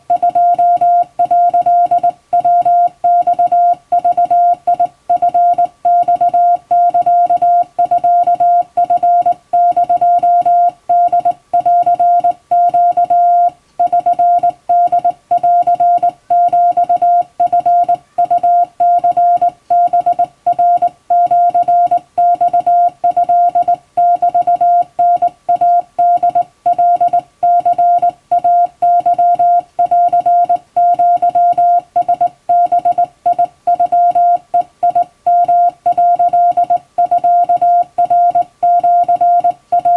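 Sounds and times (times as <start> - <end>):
morse code tone: 0.1 - 39.9.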